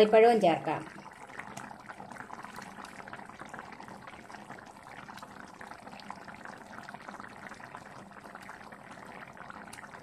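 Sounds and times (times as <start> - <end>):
food simmering in a pan: 0.0 - 10.0.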